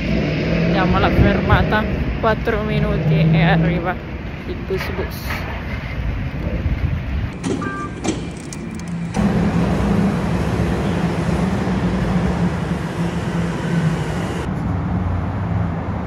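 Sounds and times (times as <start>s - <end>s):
vehicle engine hum: 0.0s - 7.4s, 8.1s - 16.0s
road noise: 0.0s - 16.0s.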